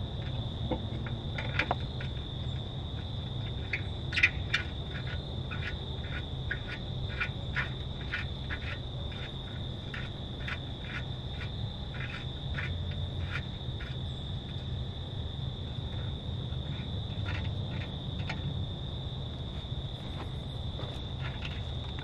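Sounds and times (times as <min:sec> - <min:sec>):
insect trill: 0:00.0 - 0:22.0
steady low hum: 0:00.0 - 0:22.0.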